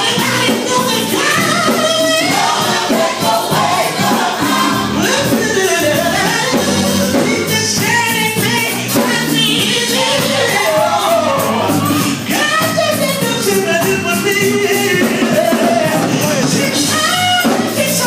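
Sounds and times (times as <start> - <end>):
gospel music with voices singing: 0.0 - 18.0.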